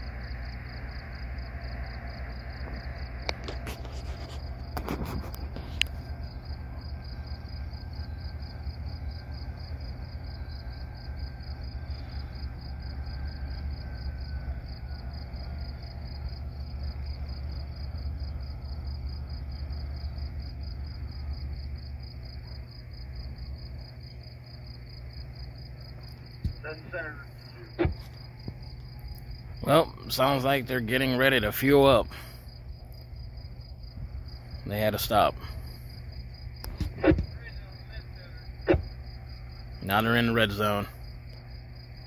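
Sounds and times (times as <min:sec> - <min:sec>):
crickets chirping: 0:00.0 - 0:42.0
diesel locomotive rumble: 0:00.0 - 0:42.0.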